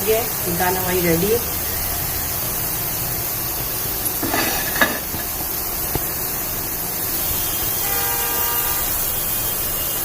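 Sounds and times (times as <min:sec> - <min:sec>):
food deep-frying in oil: 0:00.0 - 0:10.0.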